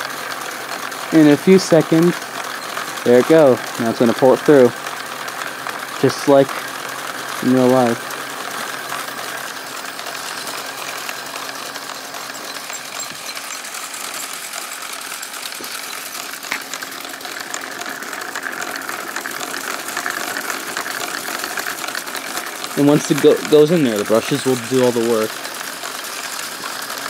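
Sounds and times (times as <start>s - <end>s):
small electric motors whirring: 0.0s - 27.0s
plastic gears rattling: 0.2s - 27.0s.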